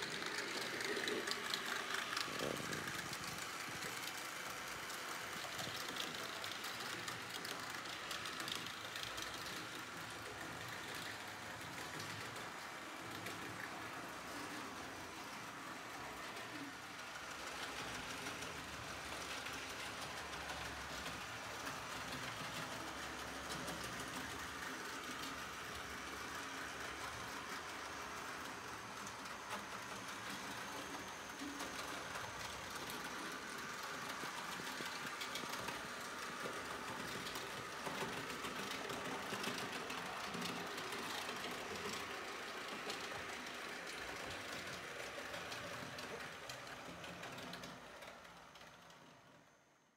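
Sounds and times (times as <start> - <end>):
model train motor whirring: 0.0 - 49.6.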